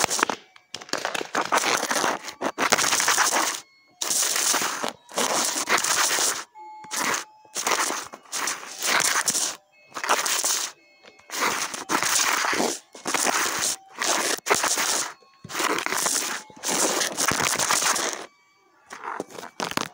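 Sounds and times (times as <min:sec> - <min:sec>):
phone microphone rustling and scraping: 0:01.2 - 0:18.3, 0:18.9 - 0:19.9.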